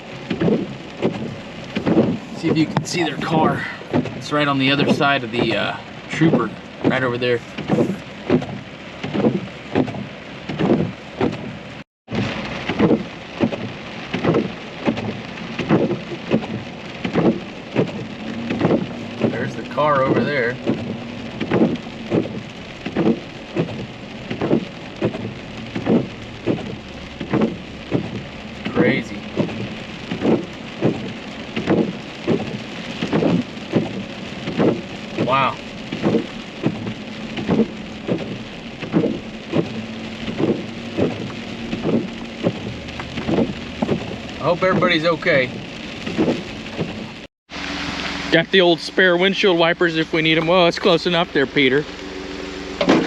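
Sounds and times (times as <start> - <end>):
rain on a vehicle: 0.0 - 53.0
windshield wipers swishing: 0.0 - 53.0
regular thump: 0.2 - 35.3, 35.9 - 47.3, 52.8 - 53.0.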